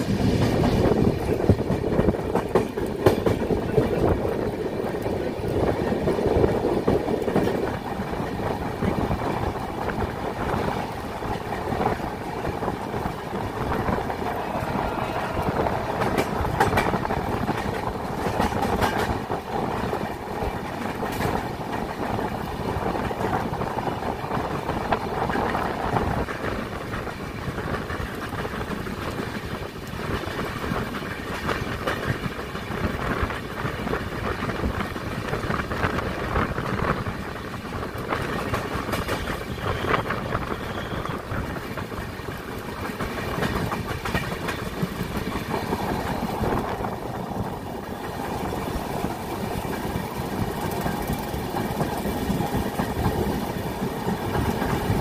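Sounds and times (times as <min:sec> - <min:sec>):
wheels clicking over rail joints: 0:00.0 - 0:15.0, 0:16.0 - 0:55.0
train wheels rumbling on rail: 0:00.0 - 0:55.0.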